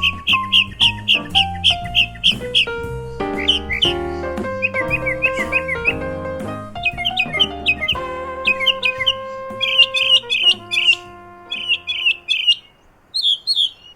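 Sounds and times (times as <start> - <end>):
small bird chirping: 0.0 - 6.1, 6.8 - 13.9
instrumental music: 0.0 - 12.6.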